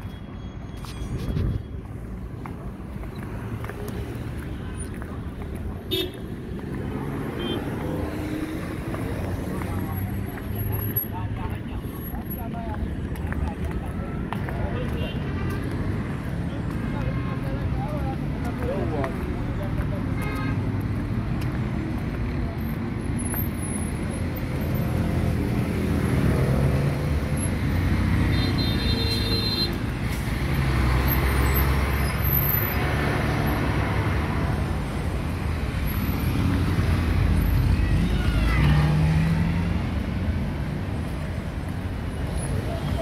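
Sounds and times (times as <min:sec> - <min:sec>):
car and truck engines: 0:00.0 - 0:43.0
tyres on the road: 0:00.0 - 0:43.0.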